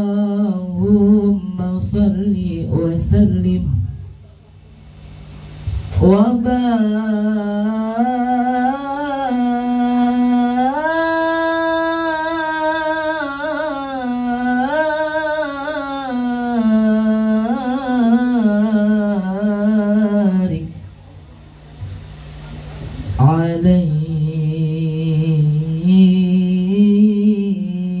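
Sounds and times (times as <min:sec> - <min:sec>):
boy singing into a microphone: 0:00.0 - 0:04.0, 0:05.6 - 0:20.9, 0:23.1 - 0:28.0.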